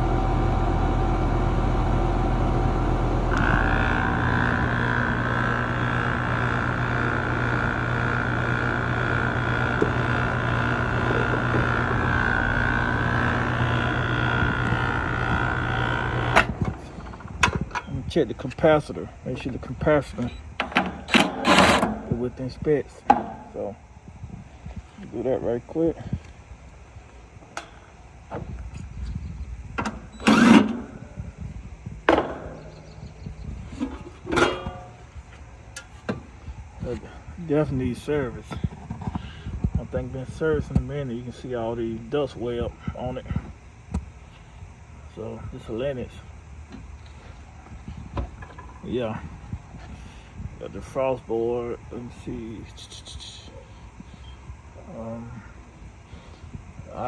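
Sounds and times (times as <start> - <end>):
heat pump hum and whine: 0.0 - 57.0
low steady rumble: 0.0 - 57.0.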